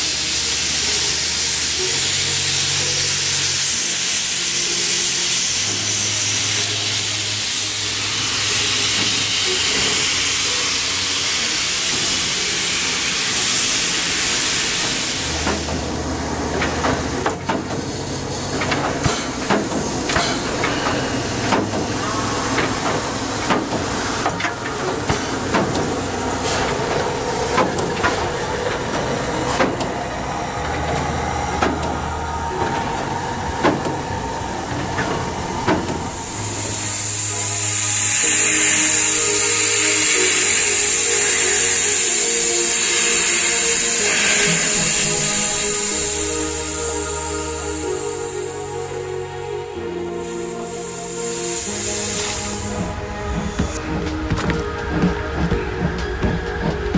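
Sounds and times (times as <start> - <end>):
steam hissing: 0.0 - 56.9.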